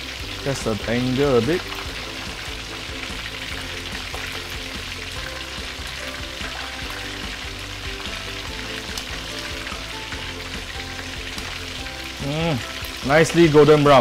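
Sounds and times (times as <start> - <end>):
chicken deep frying in oil: 0.0 - 14.0.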